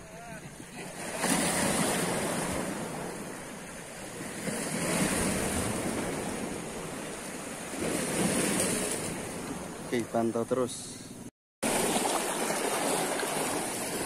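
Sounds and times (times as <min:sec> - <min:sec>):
sea waves washing against rocks: 0:00.8 - 0:10.1, 0:11.6 - 0:14.0.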